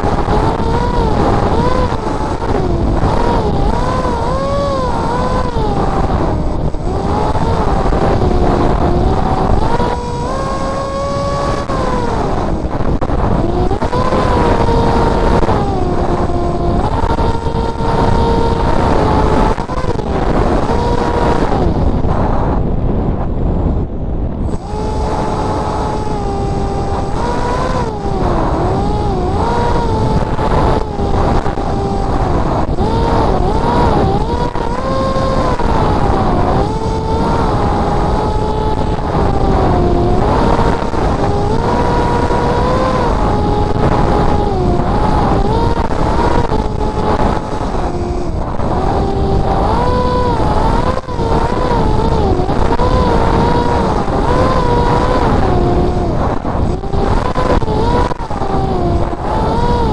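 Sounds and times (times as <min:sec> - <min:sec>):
electric motor and propeller whine: 0:00.0 - 0:59.9
wind rush on microphone: 0:00.0 - 0:59.9.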